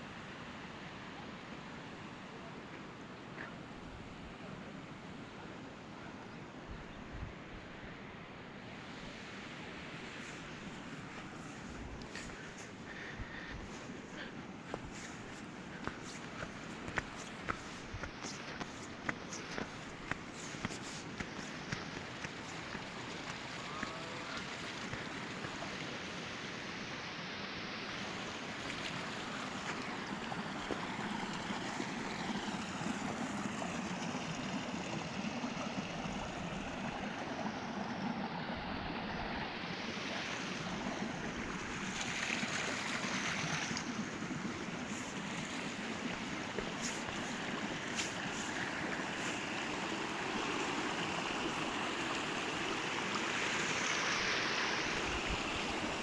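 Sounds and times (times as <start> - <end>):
running water rushing: 7.9 - 56.0.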